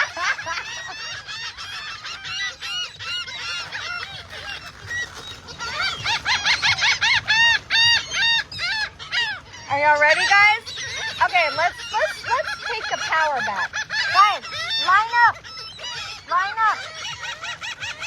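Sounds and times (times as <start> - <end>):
seagulls calling: 0.0 - 18.0.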